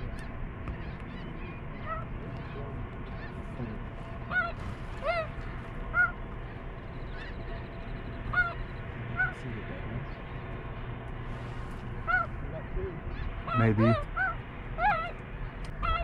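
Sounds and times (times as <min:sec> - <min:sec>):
geese honking: 0:00.0 - 0:10.5, 0:11.3 - 0:16.0
low steady rumble: 0:00.0 - 0:16.0.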